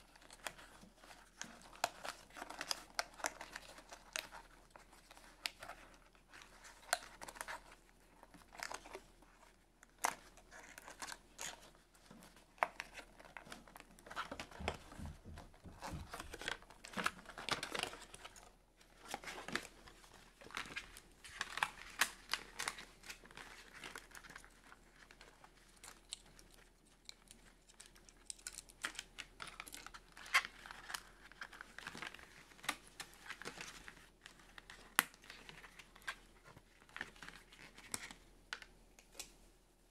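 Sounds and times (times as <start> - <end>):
plastic packaging crinkling: 0.0 - 38.7.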